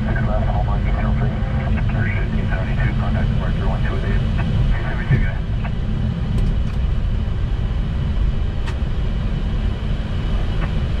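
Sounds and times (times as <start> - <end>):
aircraft cockpit low rumble: 0.0 - 11.0.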